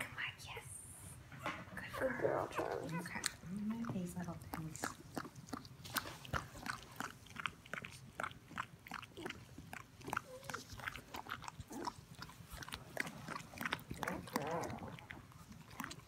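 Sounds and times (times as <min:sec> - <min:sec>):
dog licking puppy: 0:02.0 - 0:16.0.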